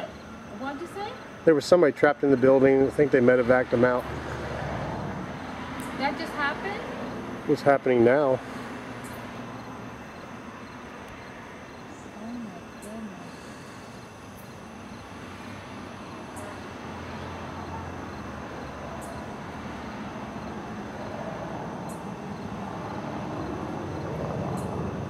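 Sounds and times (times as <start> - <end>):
insects chirping: 0.0 - 25.0
vehicle rumble: 0.0 - 25.0.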